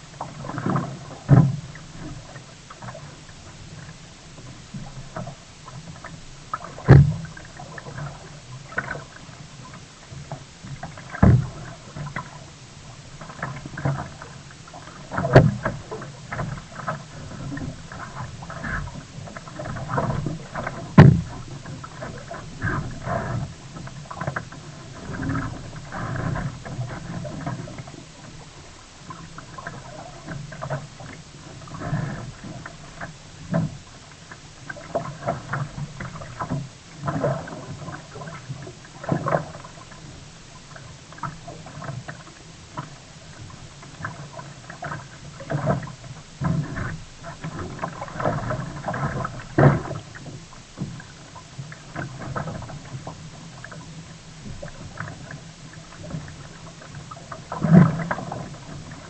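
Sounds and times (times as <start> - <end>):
paddle splashing: 0.0 - 59.0
water sloshing against hull: 0.0 - 59.0.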